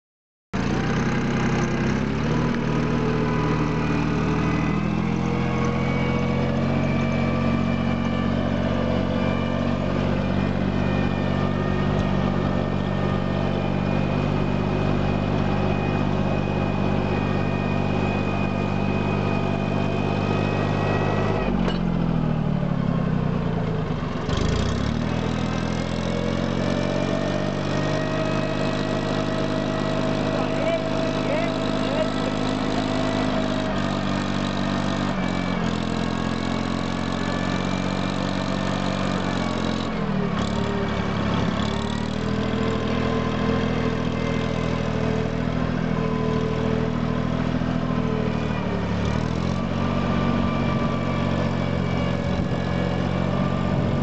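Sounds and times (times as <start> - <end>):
tractor diesel engine running: 0.6 - 54.0.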